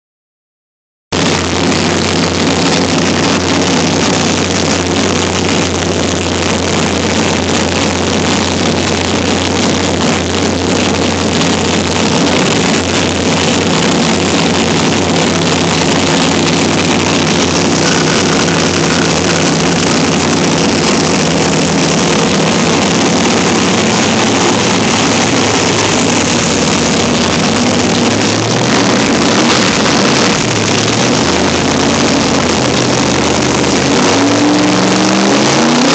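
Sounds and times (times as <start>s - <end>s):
engine running on dyno: 1.1s - 35.9s.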